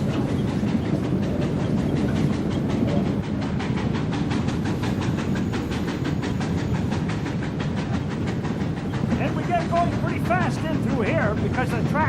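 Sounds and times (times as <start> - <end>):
steam locomotive running: 0.0 - 12.0.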